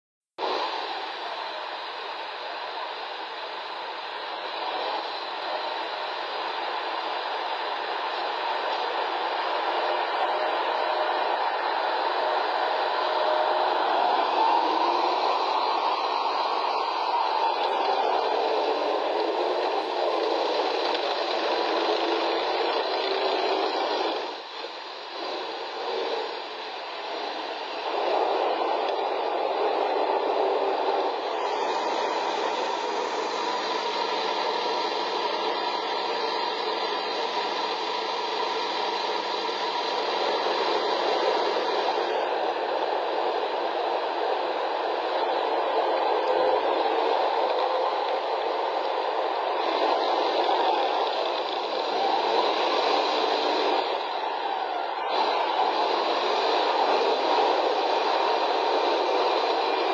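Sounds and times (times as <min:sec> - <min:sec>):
tank engine and tracks: 0:00.4 - 0:59.9.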